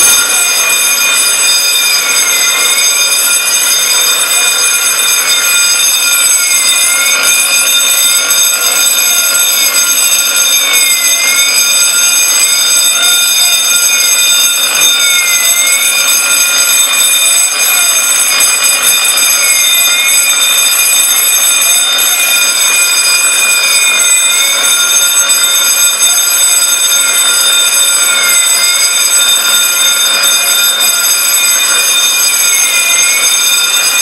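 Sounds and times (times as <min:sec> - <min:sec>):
fire alarm shrill tone: 0:00.0 - 0:34.0
sweeping alarm tone: 0:00.0 - 0:34.0.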